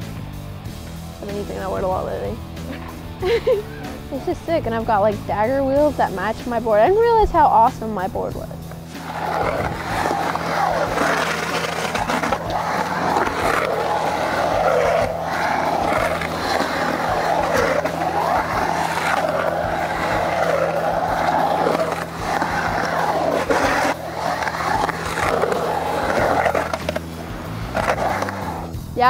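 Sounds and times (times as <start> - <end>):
skateboard wheels rolling on concrete: 0.0 - 29.0.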